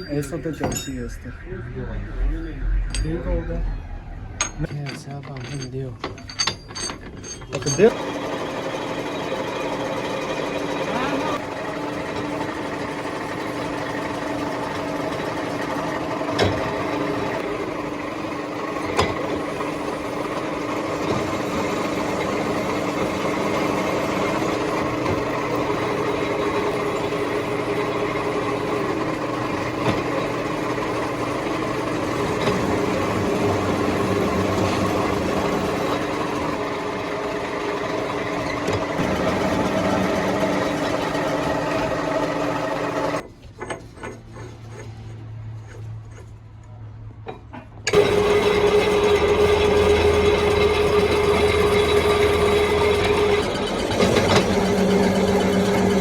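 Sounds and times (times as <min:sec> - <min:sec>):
metalworking machine hum: 0:00.0 - 0:45.8, 0:47.8 - 0:56.0.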